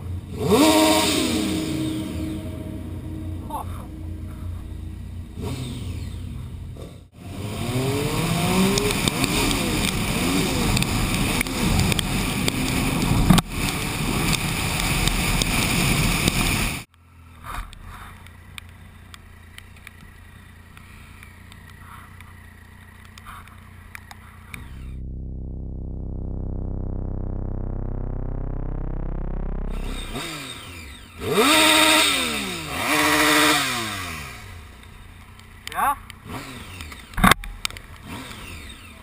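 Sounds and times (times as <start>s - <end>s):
motorcycle engines revving in tunnel: 0.0s - 25.2s, 26.1s - 39.0s
engine running steadily: 0.0s - 39.0s.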